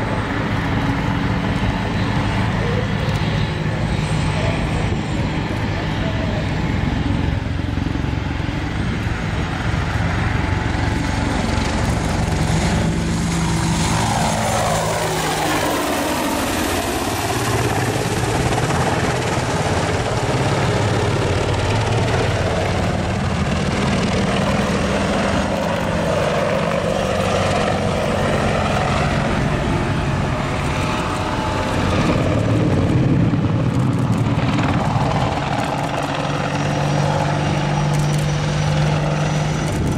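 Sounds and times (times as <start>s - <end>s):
helicopter rotor beating: 0.0s - 39.9s
turbine engine whine: 0.0s - 39.9s.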